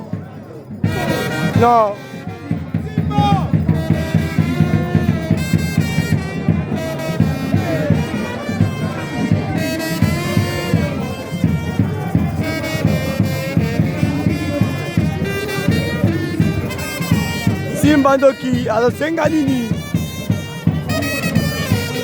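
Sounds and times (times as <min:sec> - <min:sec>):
horn melody over busy beat: 0:00.0 - 0:22.0.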